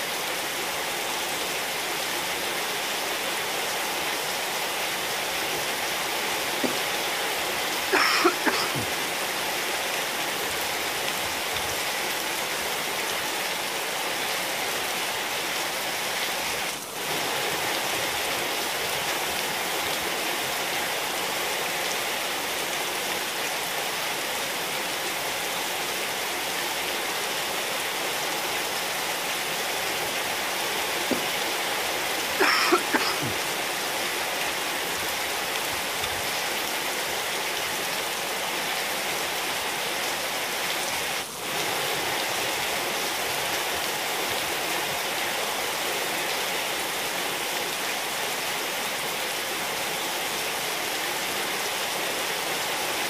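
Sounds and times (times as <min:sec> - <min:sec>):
rain falling on tiles: 0:00.0 - 0:53.0.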